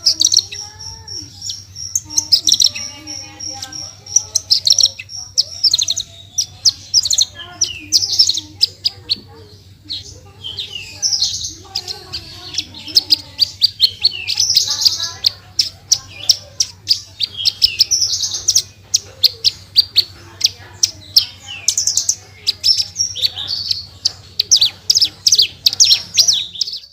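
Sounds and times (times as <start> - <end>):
bird singing trills: 0.0 - 26.9.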